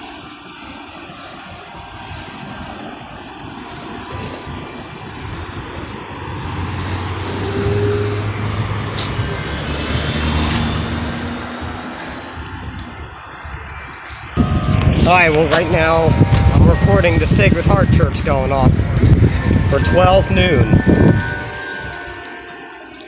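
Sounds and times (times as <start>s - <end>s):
vehicle passing: 3.4s - 23.0s.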